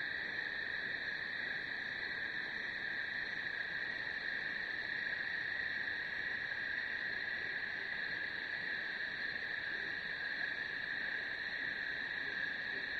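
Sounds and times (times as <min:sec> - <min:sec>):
night insect chorus: 0:00.0 - 0:12.9.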